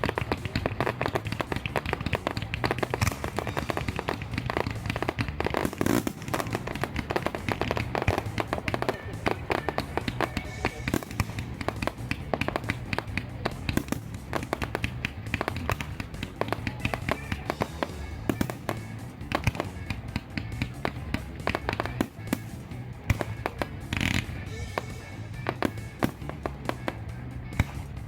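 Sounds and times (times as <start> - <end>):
background music: 0.0 - 28.0
fireworks cracking and banging: 0.0 - 28.0.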